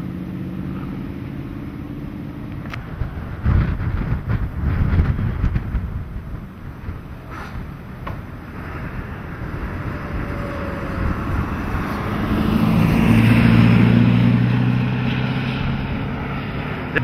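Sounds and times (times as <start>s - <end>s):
vehicle driving past: 0.0s - 17.0s.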